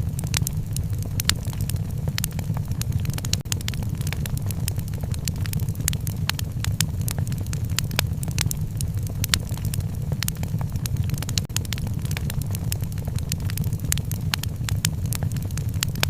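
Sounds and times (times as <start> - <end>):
wood fire burning: 0.0 - 16.0.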